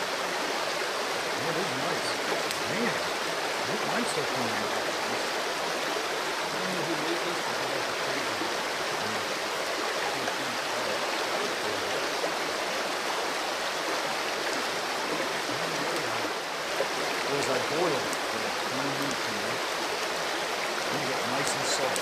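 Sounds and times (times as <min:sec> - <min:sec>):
stream rushing: 0:00.0 - 0:22.0.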